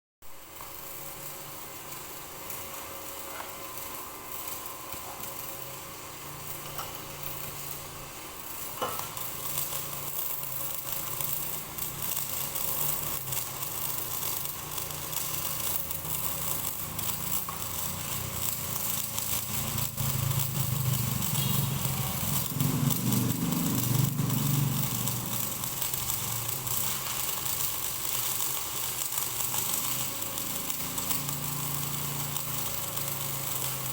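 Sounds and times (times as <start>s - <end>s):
welding arc crackling sizzle: 0.2s - 33.9s.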